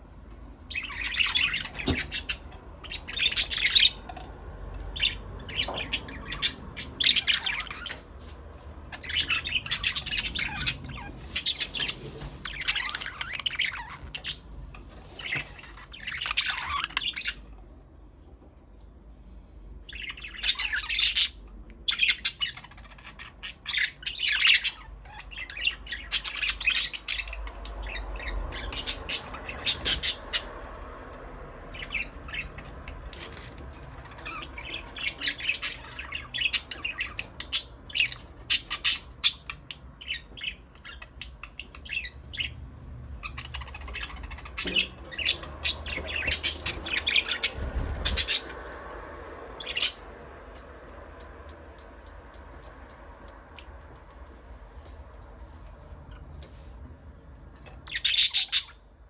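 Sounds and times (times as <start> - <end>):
budgerigars chirping and squawking: 0.7 - 17.6, 19.8 - 49.0, 49.6 - 50.2, 57.6 - 58.8.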